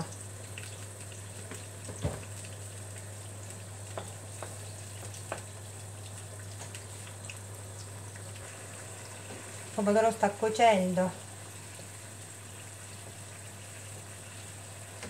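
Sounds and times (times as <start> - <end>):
sauce simmering and sizzling: 0.0 - 15.0.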